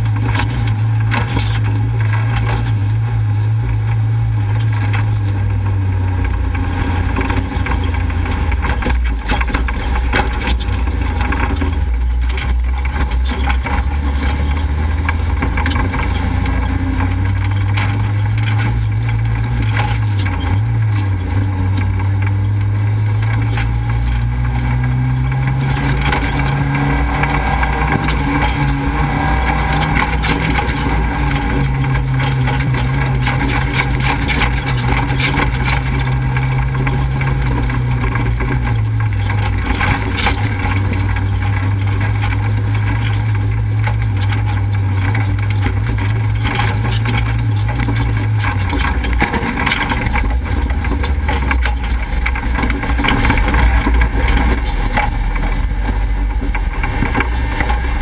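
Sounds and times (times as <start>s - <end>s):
gravel noise: 0.0s - 58.0s
race vehicle engine running hard: 0.0s - 58.0s
wind noise: 0.0s - 58.0s.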